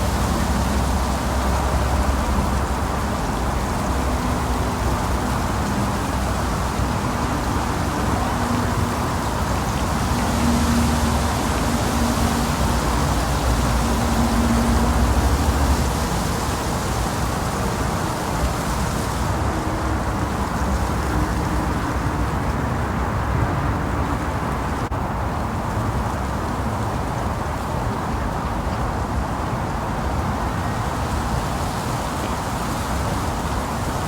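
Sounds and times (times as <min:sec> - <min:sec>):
low engine rumble: 0:00.0 - 0:30.8.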